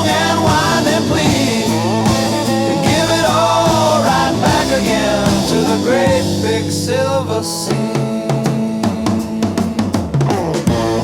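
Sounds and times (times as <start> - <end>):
psychedelic rock instrumental: 0.0 - 11.0.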